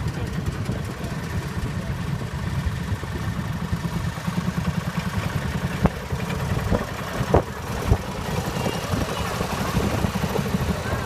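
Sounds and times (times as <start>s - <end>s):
engine rumbling unevenly: 0.0s - 11.0s.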